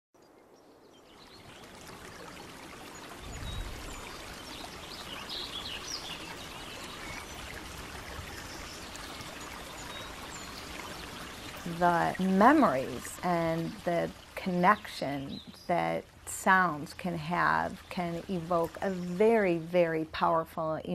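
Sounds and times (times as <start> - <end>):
creek water running: 0.5 - 20.9.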